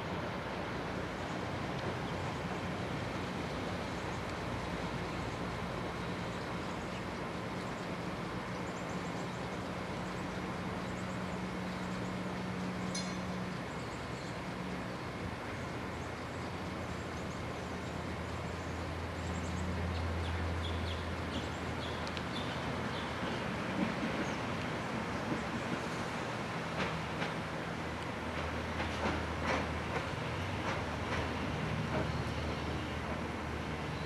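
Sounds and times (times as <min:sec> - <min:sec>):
streetcar electrical hum: 0:00.0 - 0:34.0
streetcar low rumble: 0:00.0 - 0:34.0.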